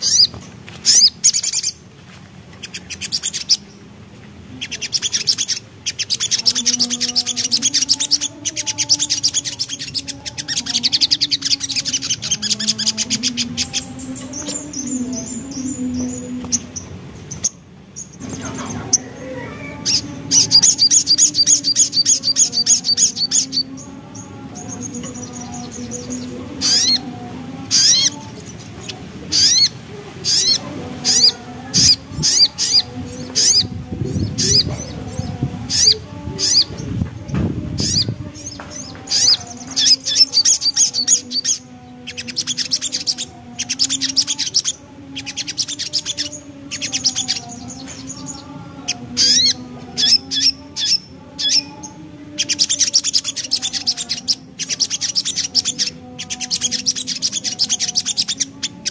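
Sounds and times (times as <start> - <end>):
sunbird twittering: 0.0 - 1.8, 4.5 - 37.0, 37.7 - 58.9.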